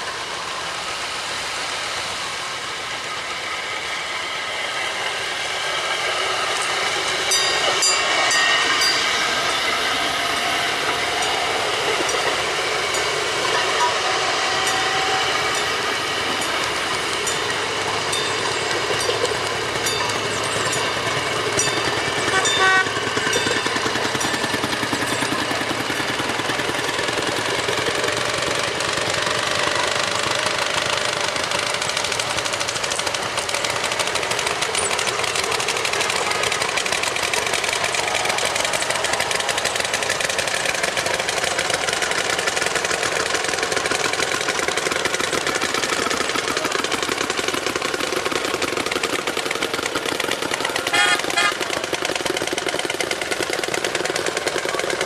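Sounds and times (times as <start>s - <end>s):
small engines chugging: 0.0s - 55.0s.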